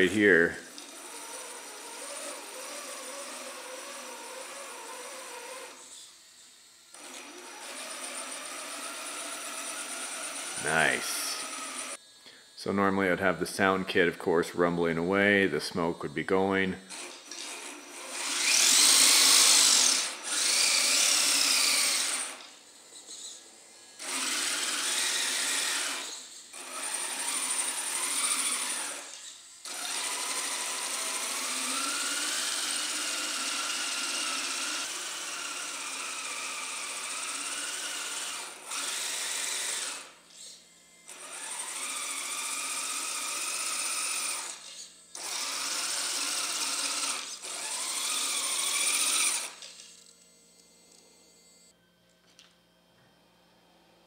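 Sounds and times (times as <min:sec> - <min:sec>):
electric motors whining: 0:00.0 - 0:53.8.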